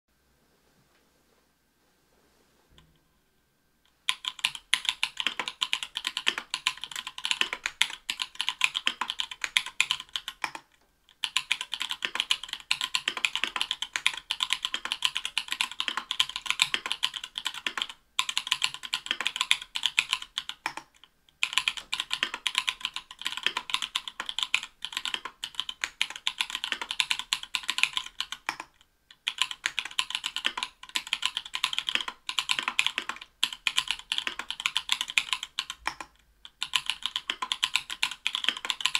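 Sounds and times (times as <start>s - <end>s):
typing on mechanical keyboard: 4.1s - 38.9s.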